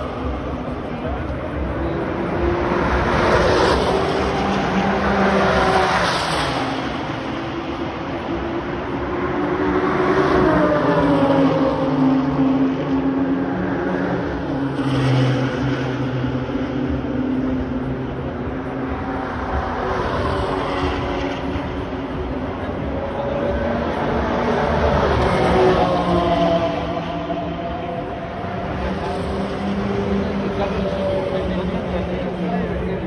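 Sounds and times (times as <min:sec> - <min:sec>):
race car engines passing: 0:00.0 - 0:33.0.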